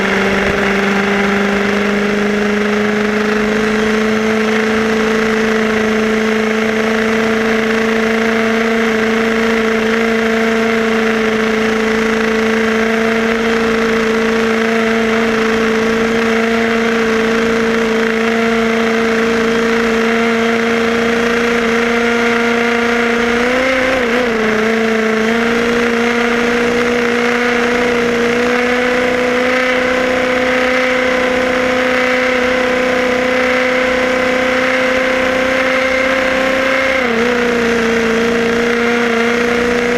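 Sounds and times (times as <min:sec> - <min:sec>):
toy car two-stroke engine revving: 0:00.0 - 0:39.9.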